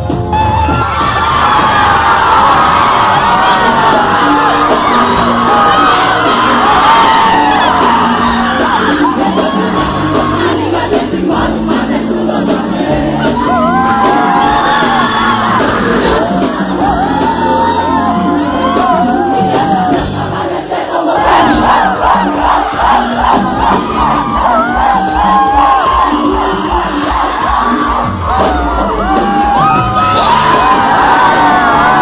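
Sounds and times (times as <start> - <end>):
crowd shouting and cheering: 0.0 - 32.0
live band playing pop song: 0.0 - 32.0
person singing: 3.2 - 32.0.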